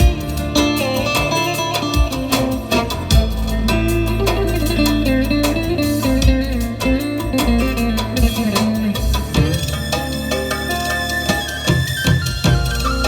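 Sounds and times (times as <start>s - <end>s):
drum beat: 0.0s - 13.0s
guitar melody: 0.0s - 13.0s
low bass: 0.0s - 13.0s.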